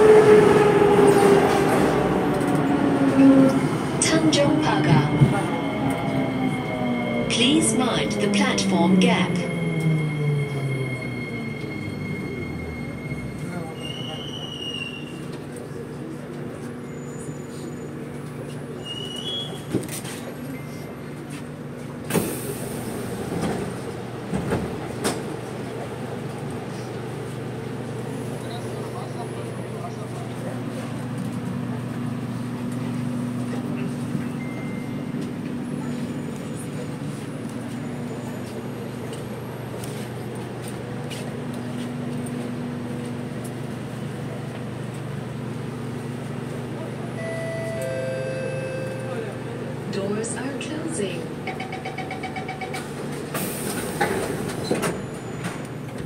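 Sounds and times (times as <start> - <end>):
train electrical hum: 0.0 - 17.3, 18.1 - 56.0.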